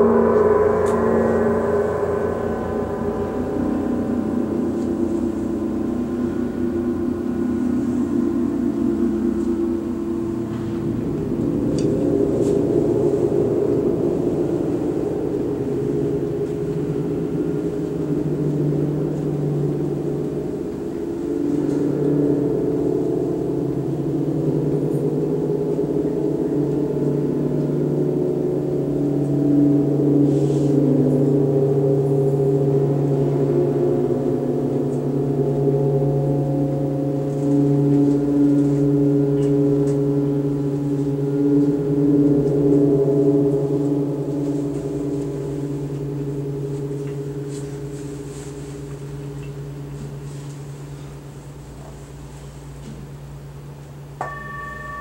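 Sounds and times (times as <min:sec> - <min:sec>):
large gongs ringing: 0:00.0 - 0:55.0.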